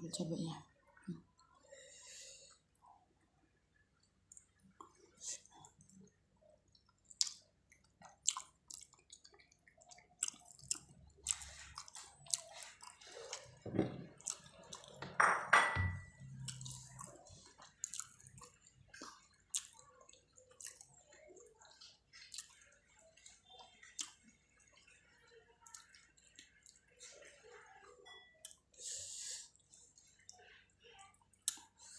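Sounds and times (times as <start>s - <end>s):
chewing with wet mouth noises: 4.0s - 15.0s, 16.2s - 28.8s, 29.5s - 31.9s.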